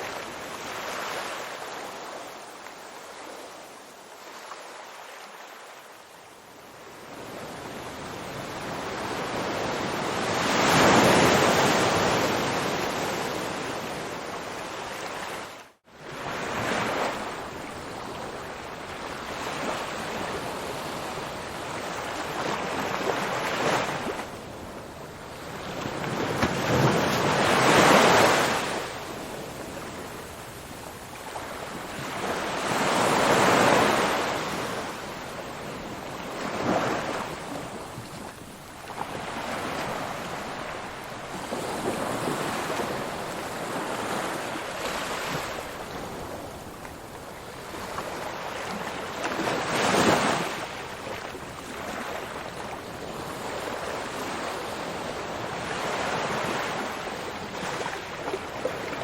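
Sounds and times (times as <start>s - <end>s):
ocean waves breaking: 7.2s - 59.0s.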